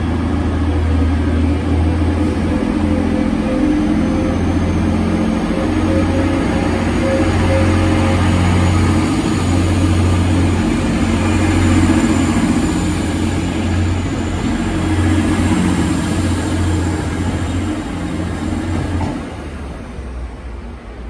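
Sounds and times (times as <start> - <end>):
diesel train engines droning: 0.0 - 21.0.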